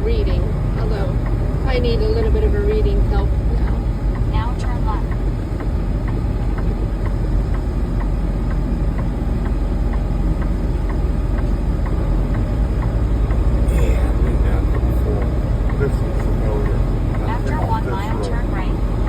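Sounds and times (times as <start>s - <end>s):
truck engine drone: 0.0s - 19.0s
turn signal clicking: 0.0s - 19.0s
tyres on road: 0.0s - 19.0s.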